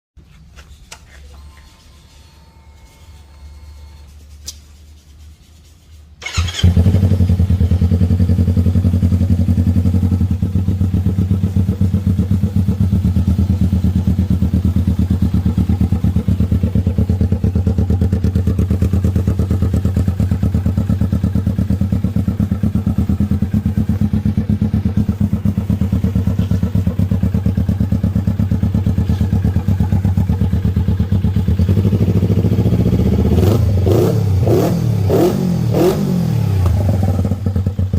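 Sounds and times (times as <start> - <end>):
motorcycle engine starting and idling: 6.2 - 37.9.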